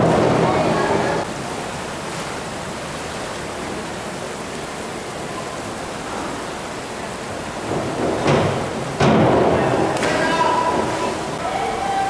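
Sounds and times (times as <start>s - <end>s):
circulating pool water: 0.0s - 12.0s.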